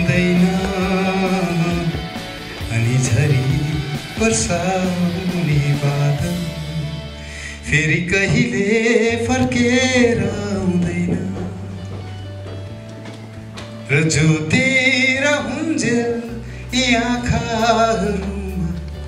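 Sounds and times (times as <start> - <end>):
man singing into microphone: 0.0 - 11.9, 13.8 - 19.0
instrumental backing with bass: 0.0 - 19.0.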